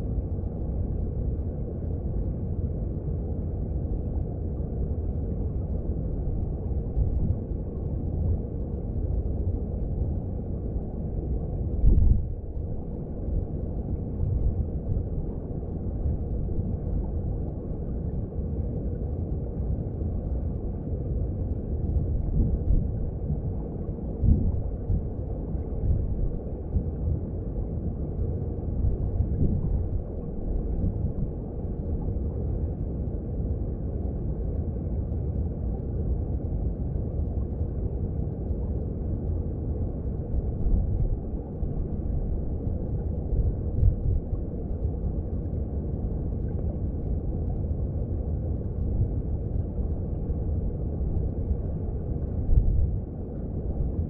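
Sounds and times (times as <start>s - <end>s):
underwater stream rumble: 0.0s - 54.0s.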